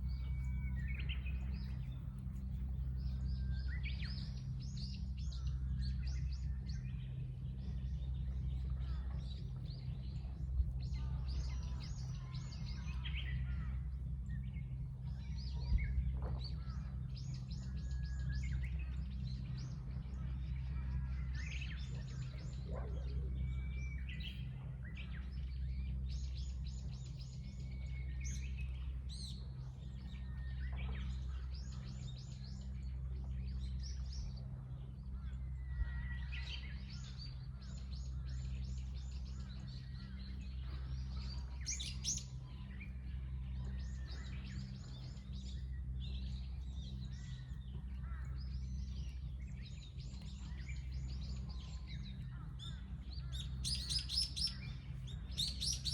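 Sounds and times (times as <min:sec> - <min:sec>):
small birds chirping: 0:00.0 - 0:55.9
steady low hum: 0:00.0 - 0:55.9.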